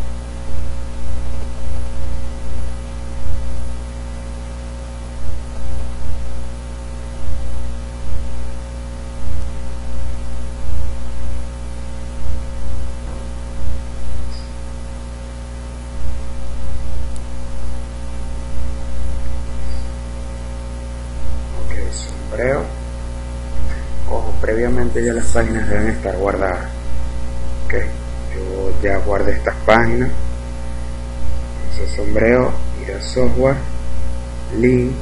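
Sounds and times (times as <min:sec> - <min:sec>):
electrical mains hum and hiss: 0:00.0 - 0:35.0.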